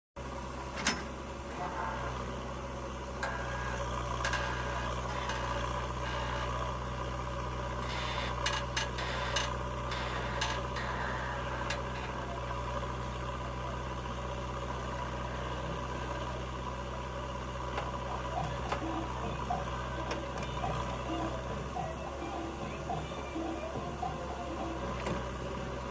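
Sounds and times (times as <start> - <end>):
diesel engine idling: 0.2 - 25.9.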